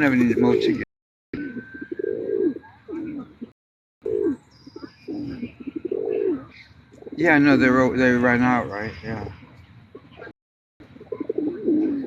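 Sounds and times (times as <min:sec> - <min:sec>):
pigeons cooing: 0:00.0 - 0:10.3, 0:10.9 - 0:12.0.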